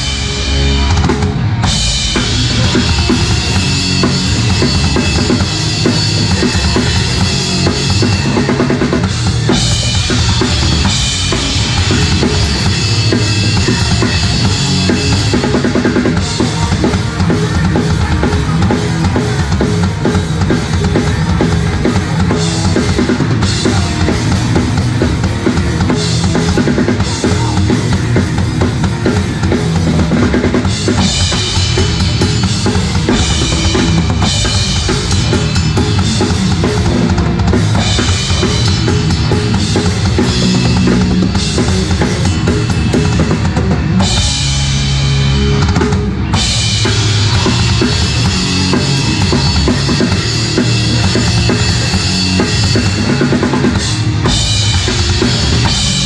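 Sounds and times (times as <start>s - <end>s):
punk band playing loud: 0.0s - 56.0s
rapid bass drum: 0.0s - 56.0s.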